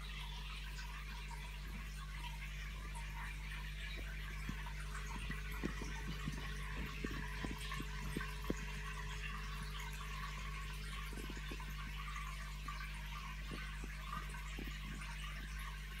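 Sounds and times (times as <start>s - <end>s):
aquarium water trickling and bubbling: 0.0s - 16.0s
steady low hum: 0.0s - 16.0s
small ticks: 0.8s - 16.0s.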